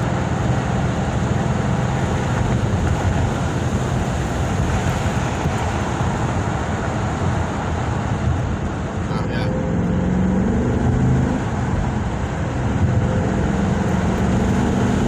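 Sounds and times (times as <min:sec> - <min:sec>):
engine and road noise drone: 0:00.0 - 0:15.0.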